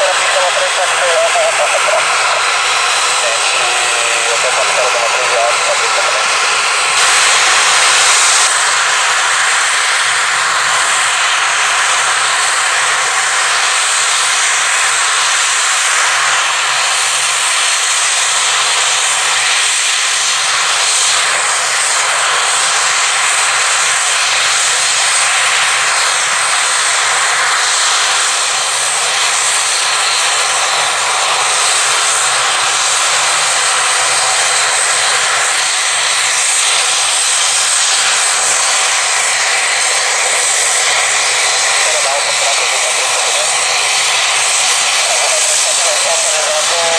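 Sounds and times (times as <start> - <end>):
aircraft engines hissing: 0.0 - 46.9.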